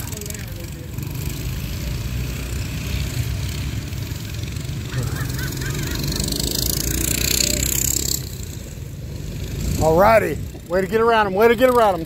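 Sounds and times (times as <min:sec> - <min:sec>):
minibike engines racing: 0:00.0 - 0:12.0.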